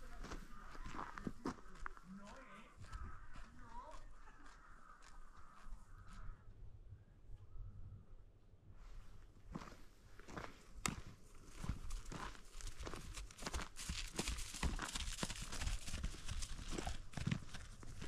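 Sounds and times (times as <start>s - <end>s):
horse hooves on grass: 0.0s - 6.2s, 9.5s - 18.0s.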